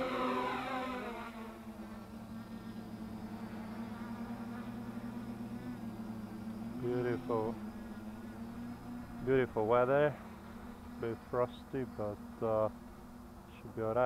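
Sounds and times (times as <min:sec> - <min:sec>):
quadcopter propellers buzzing: 0:00.0 - 0:14.0.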